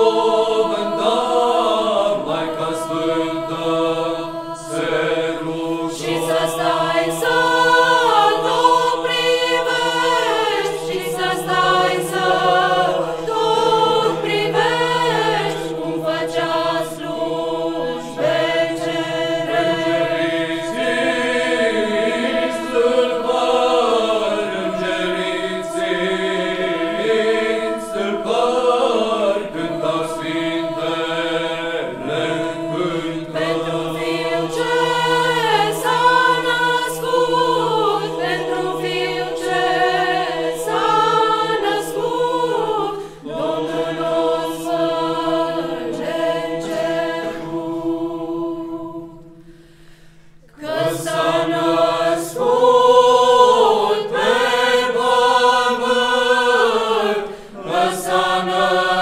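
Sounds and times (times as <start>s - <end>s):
long-held drone notes: 0.0s - 49.5s
women's choir singing a cappella: 0.0s - 49.5s, 50.4s - 59.0s.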